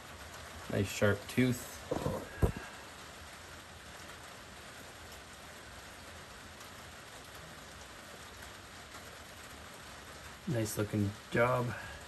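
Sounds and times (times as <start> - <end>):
faint rain hiss: 0.0 - 12.0.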